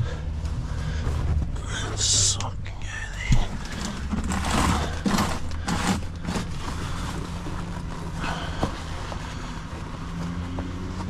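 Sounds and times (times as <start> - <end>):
diesel truck engine idling: 0.0 - 10.5
items rustling: 0.0 - 11.0.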